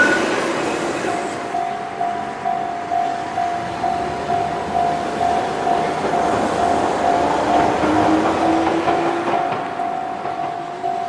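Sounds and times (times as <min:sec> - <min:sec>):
level-crossing warning bell ringing: 0:00.0 - 0:11.0
train crossing steel bridge: 0:00.0 - 0:11.0.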